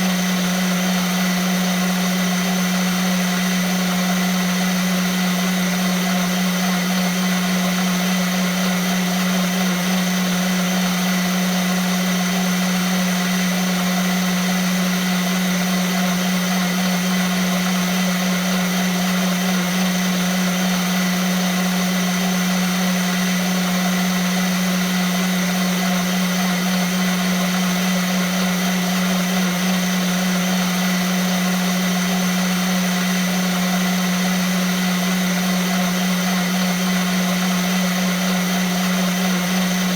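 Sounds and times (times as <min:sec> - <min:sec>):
blender motor running: 0:00.0 - 0:39.9.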